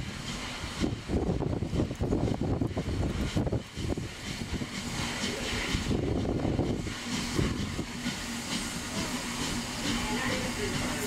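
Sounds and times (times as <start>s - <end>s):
steam locomotive moving slowly: 0.0s - 11.0s.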